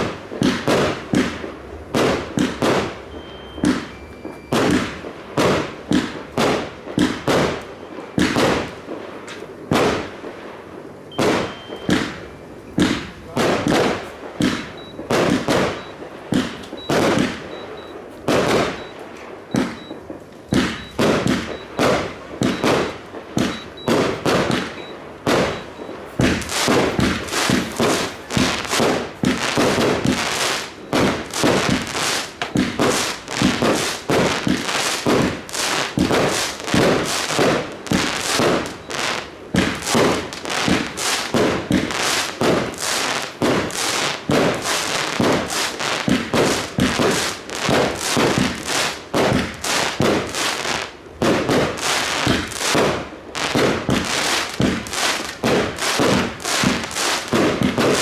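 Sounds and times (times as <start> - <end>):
fireworks banging and crackling: 0.0 - 58.0.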